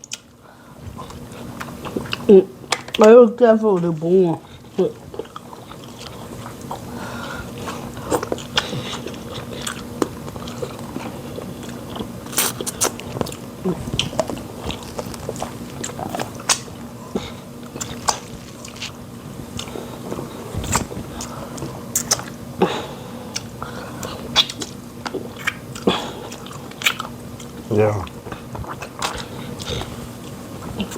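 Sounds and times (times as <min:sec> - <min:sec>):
chewing and mouth smacks: 0:00.0 - 0:00.3, 0:00.9 - 0:03.1, 0:05.0 - 0:22.4, 0:23.3 - 0:30.9.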